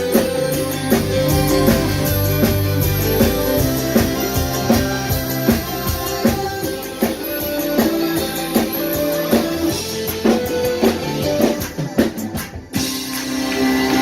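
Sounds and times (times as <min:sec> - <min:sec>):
guitar chords: 0:00.0 - 0:11.7
band playing instrumental: 0:00.0 - 0:14.0
drum kit beat: 0:00.0 - 0:14.0.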